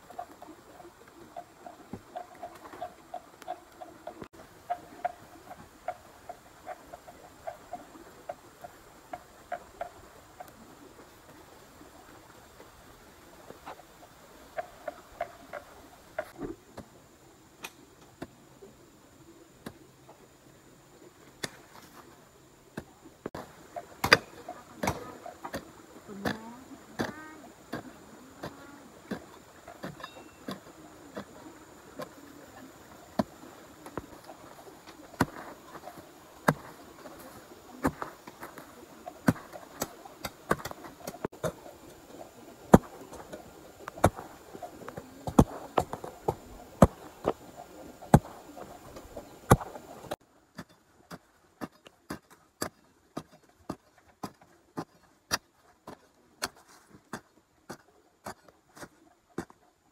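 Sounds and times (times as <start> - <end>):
background hiss: 0.0 - 59.9.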